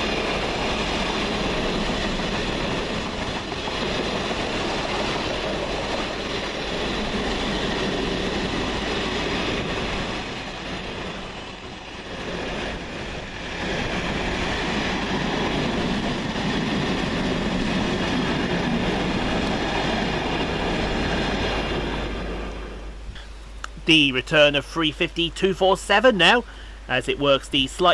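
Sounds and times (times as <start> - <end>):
train wheels rumbling on rails: 0.0 - 23.3.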